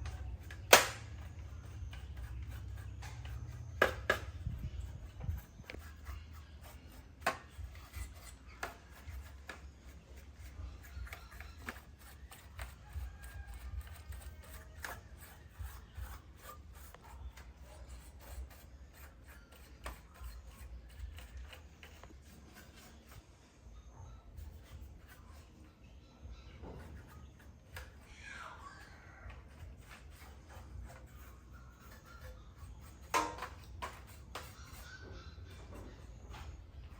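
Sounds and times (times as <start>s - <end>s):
rubbing and scraping: 0.0s - 36.9s.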